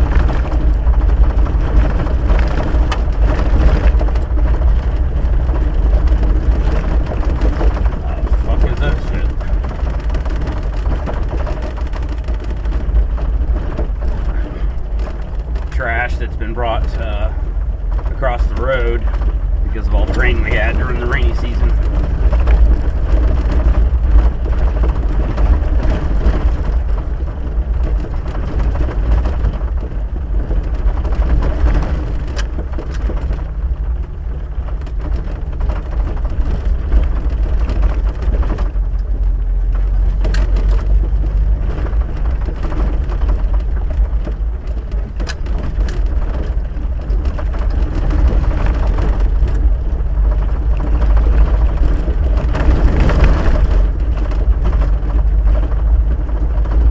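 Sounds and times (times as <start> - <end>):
sharp clicks and rattles: 0.0 - 56.9
vehicle driving on gravel: 0.0 - 56.9.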